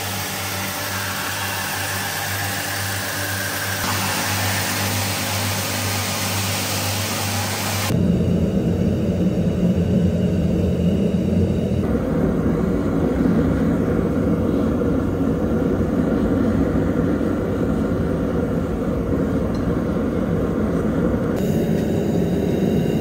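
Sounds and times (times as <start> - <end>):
gas forge burner roaring: 0.0 - 23.0.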